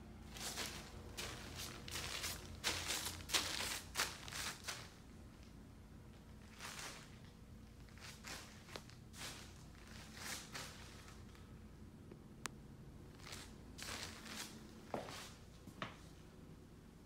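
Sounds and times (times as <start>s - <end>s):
soft footsteps: 0.2s - 11.4s, 13.1s - 16.2s
footsteps crinkling on plastic sheeting: 0.3s - 11.4s, 13.1s - 16.0s.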